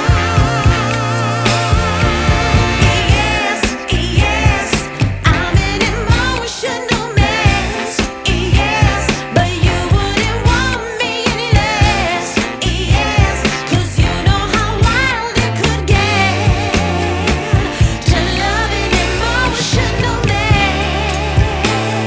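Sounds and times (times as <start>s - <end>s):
steady drum beat: 0.0s - 22.0s
vibrato singing voice: 0.0s - 22.0s.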